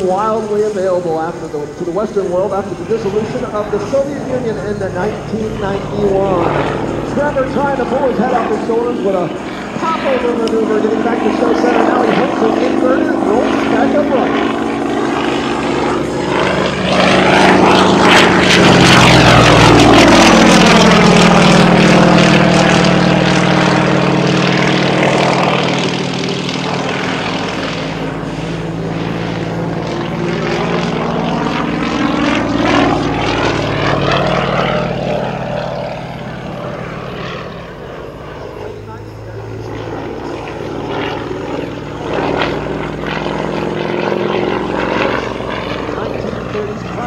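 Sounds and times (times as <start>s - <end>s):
biplane engine and propeller: 0.0s - 47.0s.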